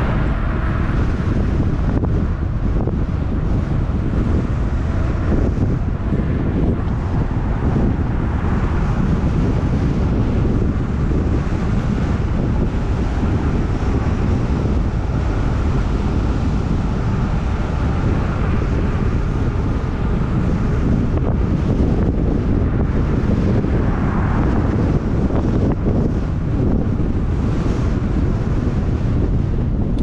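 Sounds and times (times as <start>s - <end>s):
wind buffeting the microphone: 0.0s - 30.0s.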